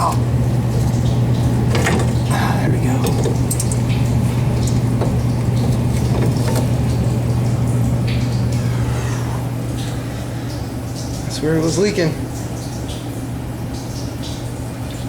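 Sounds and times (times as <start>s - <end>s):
low machinery hum: 0.0s - 13.5s.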